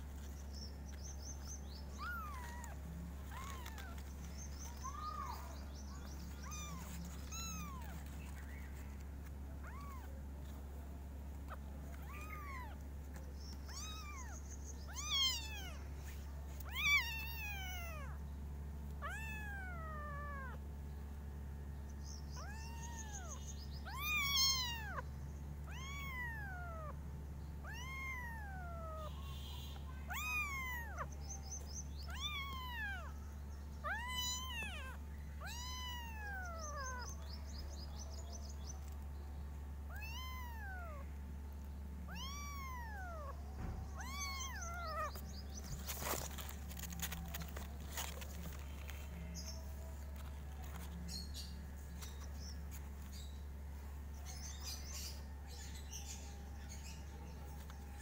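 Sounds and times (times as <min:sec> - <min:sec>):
kittens meowing: 0:00.0 - 0:18.2, 0:18.9 - 0:20.7, 0:22.2 - 0:27.0, 0:27.6 - 0:39.0, 0:39.8 - 0:41.2, 0:42.0 - 0:53.3.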